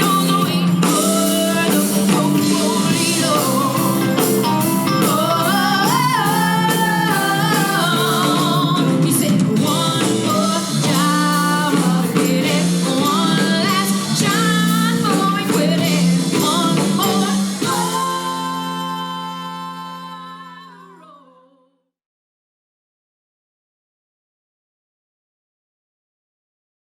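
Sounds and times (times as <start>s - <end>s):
soft rock band with vocals: 0.0s - 21.6s.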